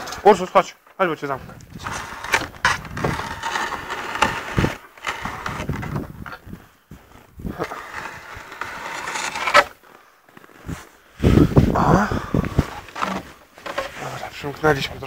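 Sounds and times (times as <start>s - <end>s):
footsteps crunching in snow: 1.7s - 15.0s.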